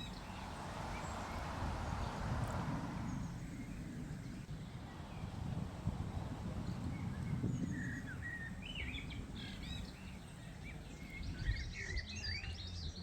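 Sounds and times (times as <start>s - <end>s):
songbirds chirping and warbling: 0.0s - 13.0s.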